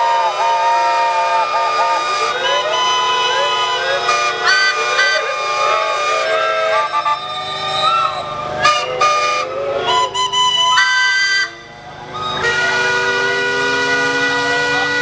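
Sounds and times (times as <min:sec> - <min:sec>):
steam engine whistles blowing: 0:00.0 - 0:15.0.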